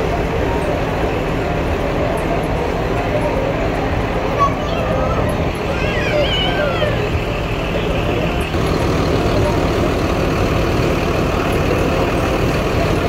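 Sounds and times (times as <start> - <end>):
bus engine idling: 0.0 - 13.0
street noise: 0.0 - 13.0.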